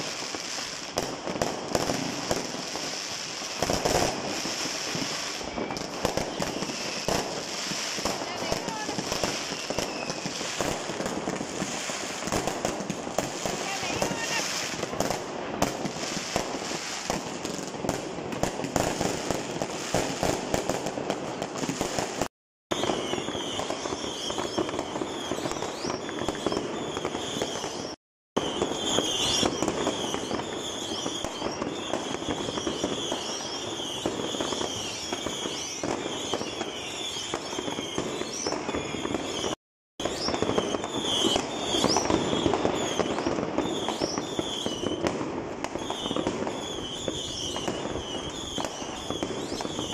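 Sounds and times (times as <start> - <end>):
firework whistles: 0.0 - 49.9
fireworks crackling and banging: 0.0 - 49.9.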